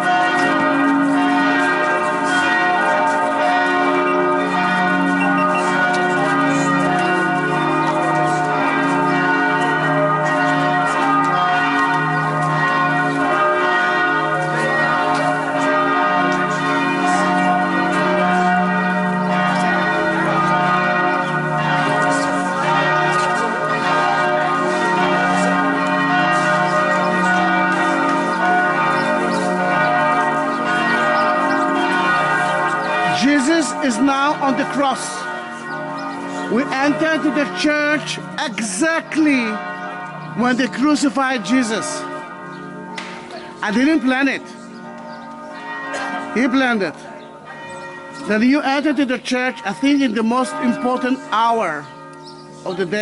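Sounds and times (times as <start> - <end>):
church bells ringing: 0.0 - 53.0.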